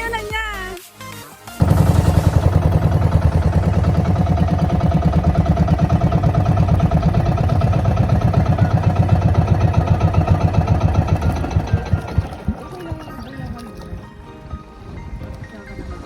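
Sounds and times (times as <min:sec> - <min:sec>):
boat engine pulsing: 0:01.6 - 0:16.0.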